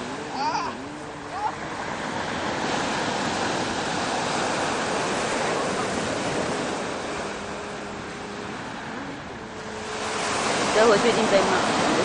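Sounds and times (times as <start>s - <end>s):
sea waves breaking on shore: 0.0s - 12.0s.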